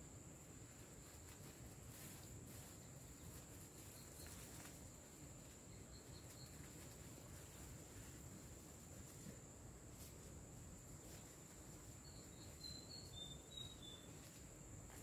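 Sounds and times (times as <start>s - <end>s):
rustling leaves and plastic bags: 0.4s - 15.0s.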